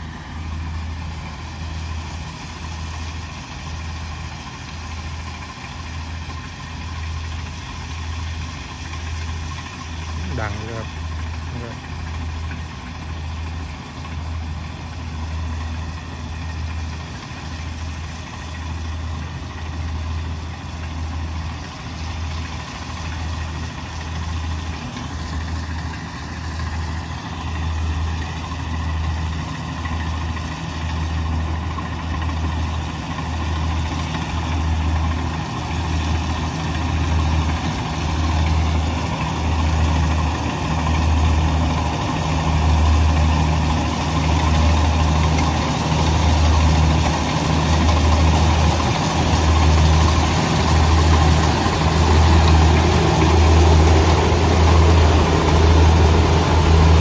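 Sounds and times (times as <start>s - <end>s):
combine harvester droning: 0.0s - 57.0s.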